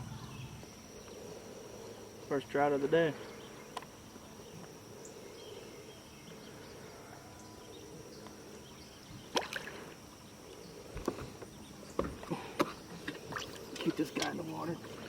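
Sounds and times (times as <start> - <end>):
faint moving water: 0.0 - 15.0
insects droning: 0.0 - 15.0.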